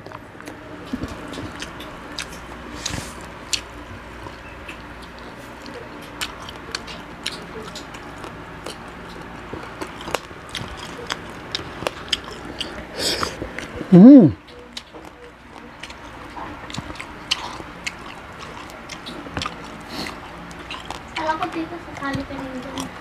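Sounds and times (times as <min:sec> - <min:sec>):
chewing crispy fried food: 0:00.0 - 0:23.0.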